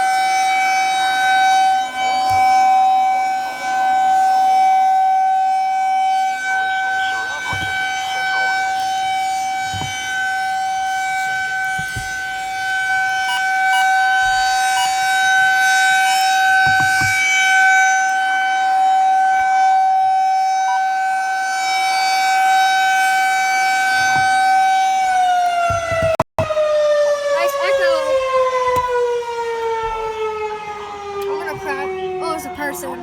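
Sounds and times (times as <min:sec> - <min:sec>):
rotating warning siren: 0:00.0 - 0:33.0.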